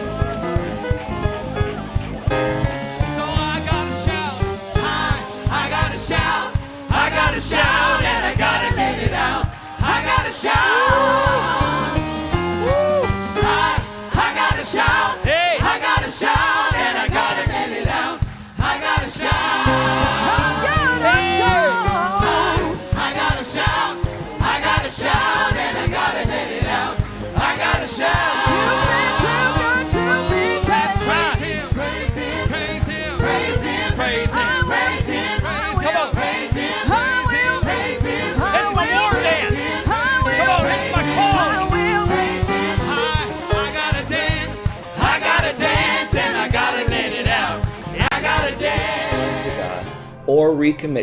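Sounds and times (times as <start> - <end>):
band playing a steady beat: 0.0 - 49.9
choir singing: 2.2 - 50.1.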